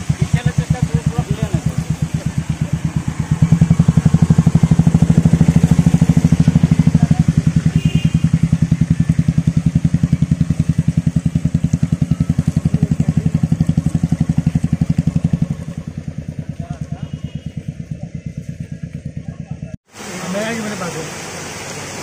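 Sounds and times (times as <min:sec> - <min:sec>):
motorcycle engine at low revs: 0:00.0 - 0:19.8.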